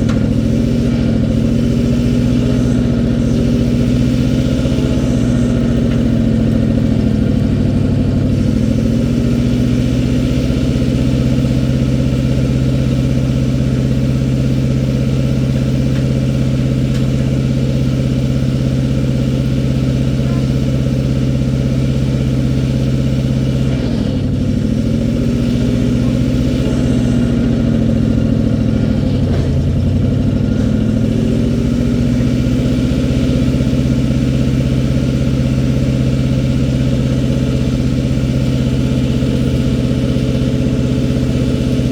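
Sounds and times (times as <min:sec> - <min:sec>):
backhoe engine running: 0:00.0 - 0:41.9.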